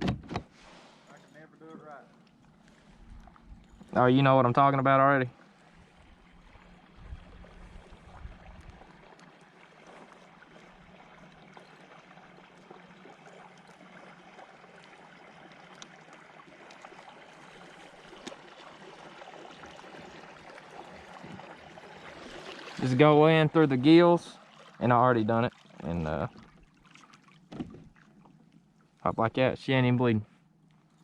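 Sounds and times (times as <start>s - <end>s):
water lapping and trickling: 0.0s - 31.0s.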